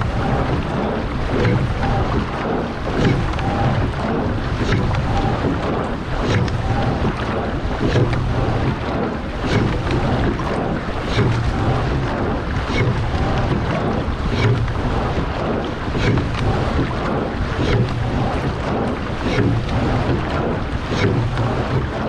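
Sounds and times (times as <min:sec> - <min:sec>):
oar stroke click: 0:00.0 - 0:22.0
water rushing along hull: 0:00.0 - 0:22.0
wind on microphone: 0:00.0 - 0:22.0.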